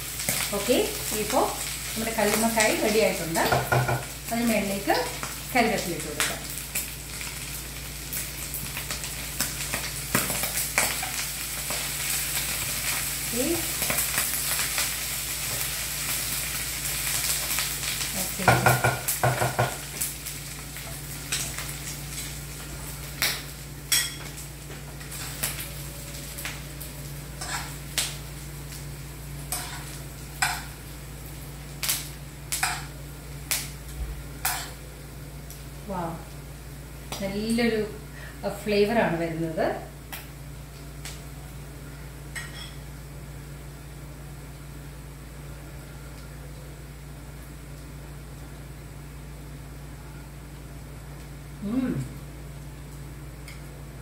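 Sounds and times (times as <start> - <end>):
mussels sizzling in oil: 0.0 - 51.6.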